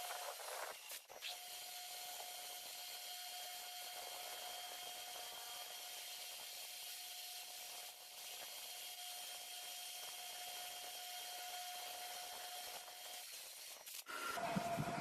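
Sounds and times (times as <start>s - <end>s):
machine tool hissing and whining: 0.0s - 15.0s.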